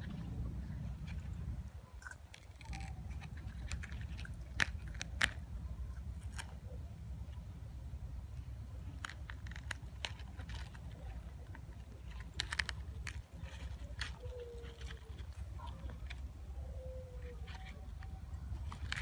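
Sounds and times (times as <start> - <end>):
low steady rumble: 0.0 - 19.0
banana leaf crackling: 1.0 - 6.6, 8.8 - 19.0.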